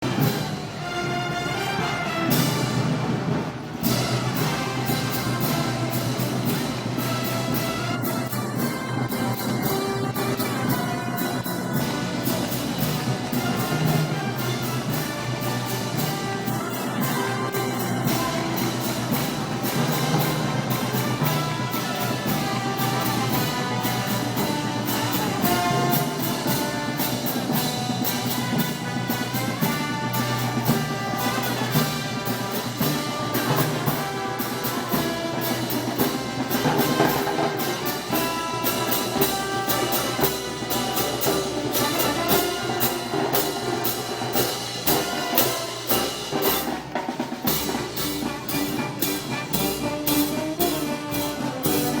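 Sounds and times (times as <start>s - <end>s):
brass band playing: 0.0s - 52.0s
drums with steady beat: 0.0s - 52.0s
trumpets and trombones: 0.0s - 52.0s.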